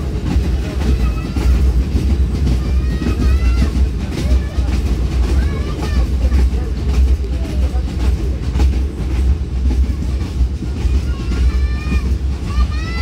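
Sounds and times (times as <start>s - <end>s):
train rumbling on track: 0.0s - 13.0s
wheels clicking over rails: 0.0s - 13.0s.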